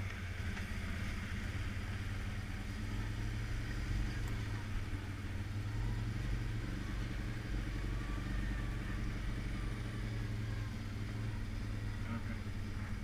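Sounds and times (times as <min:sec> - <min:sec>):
atv engine droning: 0:00.0 - 0:13.0.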